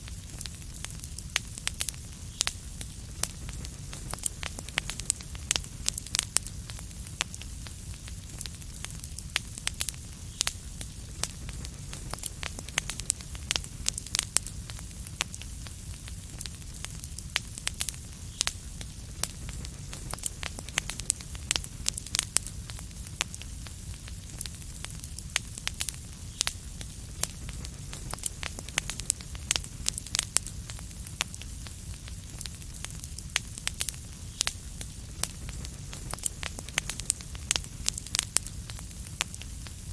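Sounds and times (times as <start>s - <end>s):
low rumble and hiss: 0.0s - 39.9s
wood fire crackling: 0.0s - 39.9s.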